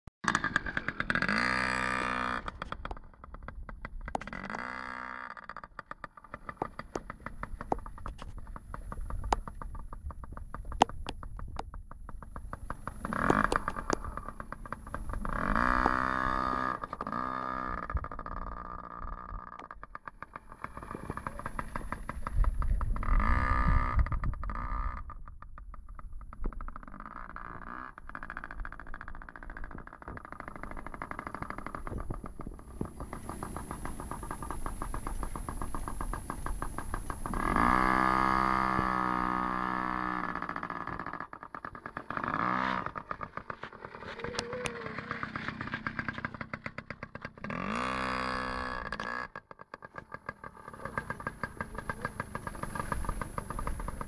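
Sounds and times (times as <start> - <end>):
small two-stroke engine revving: 0.2 - 11.2, 11.8 - 25.4, 26.3 - 54.0.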